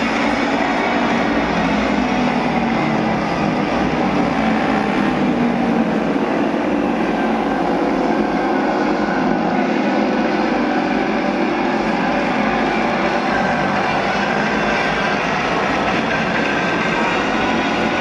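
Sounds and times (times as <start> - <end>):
racing motorcycle engines: 0.0 - 18.0.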